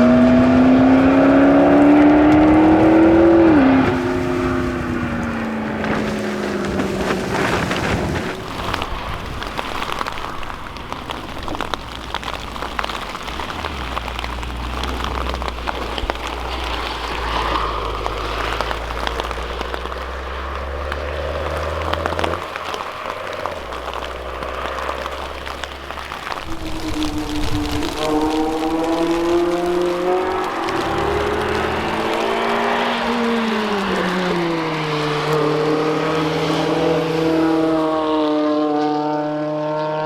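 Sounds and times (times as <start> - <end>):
rain pattering: 0.0 - 39.9
car engines droning: 0.0 - 40.0.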